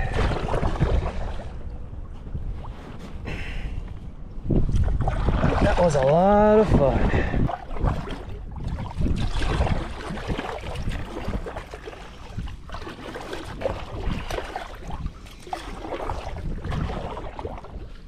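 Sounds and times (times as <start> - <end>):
water splashing around a kayak: 0.0 - 3.1, 4.5 - 18.0
low river rumble: 0.0 - 18.0.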